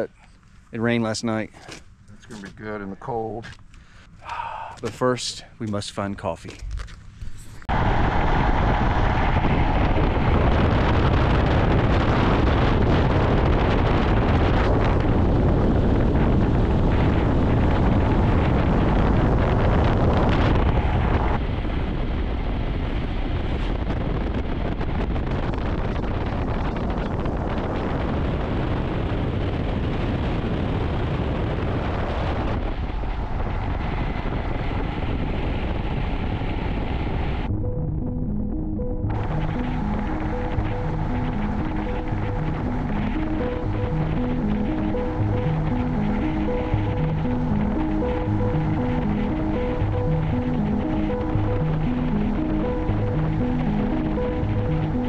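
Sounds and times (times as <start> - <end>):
wind rushing over microphone: 0.8 - 55.0.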